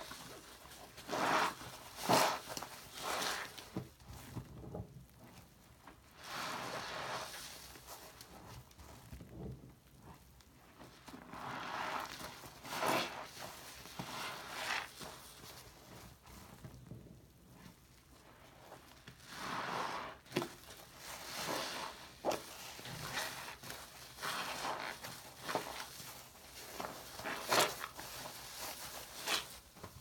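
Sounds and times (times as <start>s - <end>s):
wet sponge squelching in foam: 0.8s - 3.6s, 6.2s - 10.2s, 10.8s - 16.7s, 17.5s - 29.8s.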